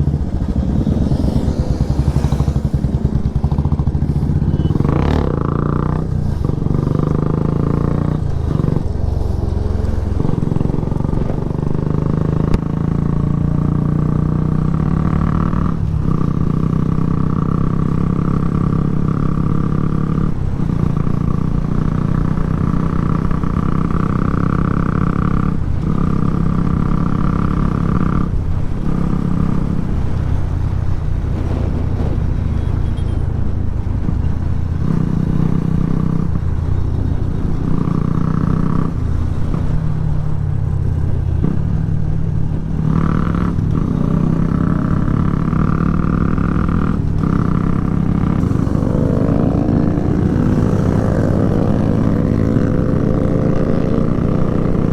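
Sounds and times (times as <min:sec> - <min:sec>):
motorcycle engine running hard: 0:00.0 - 0:54.9
wind rumble: 0:00.0 - 0:54.9.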